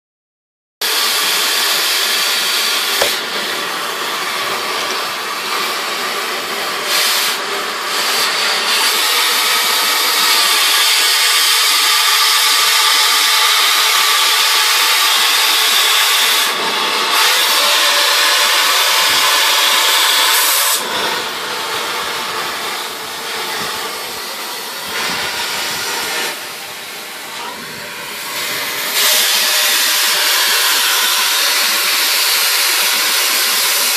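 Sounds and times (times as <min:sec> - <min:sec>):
cutting torch hissing: 0:00.8 - 0:33.9.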